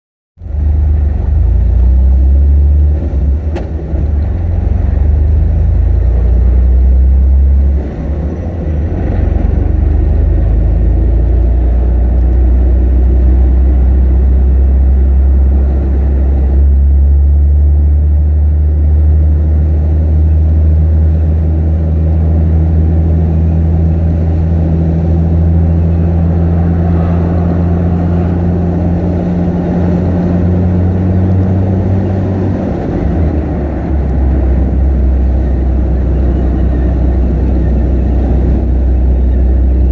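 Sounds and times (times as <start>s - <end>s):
low engine drone: 0.4s - 39.9s
road noise: 0.4s - 39.9s.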